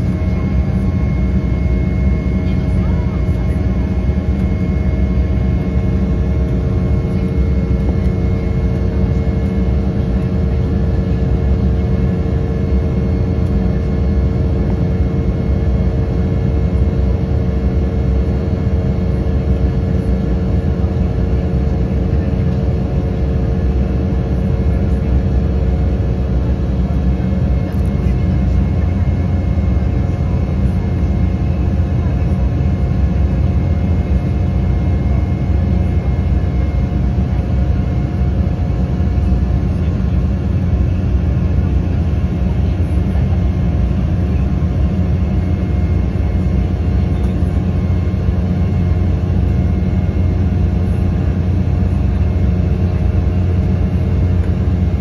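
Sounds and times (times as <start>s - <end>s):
aircraft cabin low rumble: 0.0s - 55.0s
jet engine hum: 0.0s - 55.0s.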